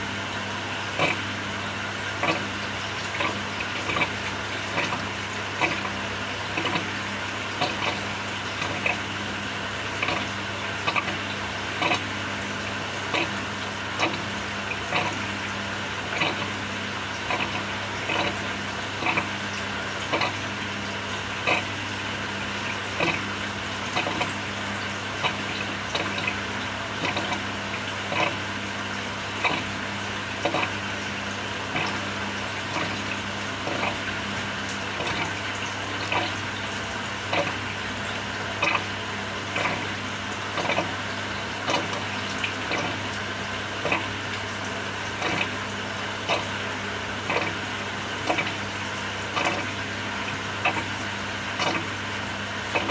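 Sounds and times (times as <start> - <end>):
washing machine motor hum: 0.0 - 52.9
water sloshing in tub: 0.0 - 52.9.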